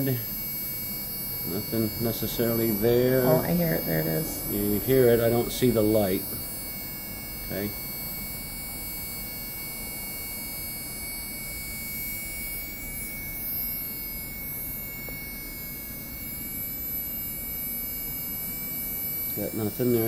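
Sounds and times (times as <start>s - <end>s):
electronic buzz and hiss: 0.0s - 20.0s
thin high whine: 0.0s - 20.0s.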